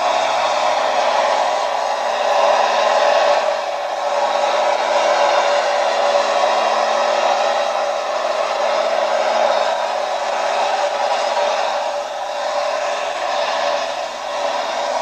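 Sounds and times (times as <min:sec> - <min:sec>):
tractor engine roaring at full throttle: 0:00.0 - 0:15.0.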